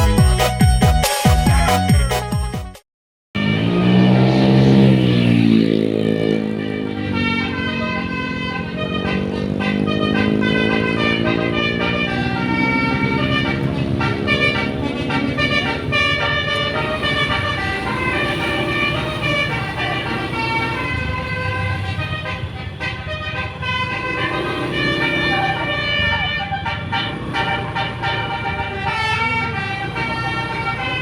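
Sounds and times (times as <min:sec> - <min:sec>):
bus engine running: 0:03.4 - 0:31.0
multi-tone air horn melody: 0:03.4 - 0:31.0.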